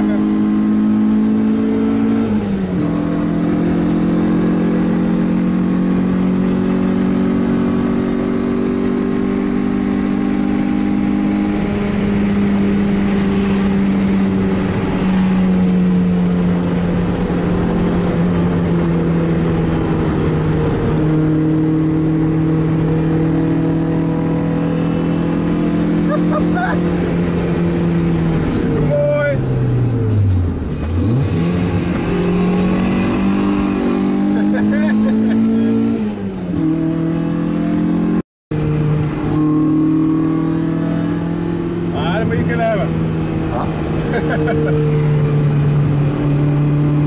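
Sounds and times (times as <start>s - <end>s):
car engine running hard: 0.0s - 47.0s.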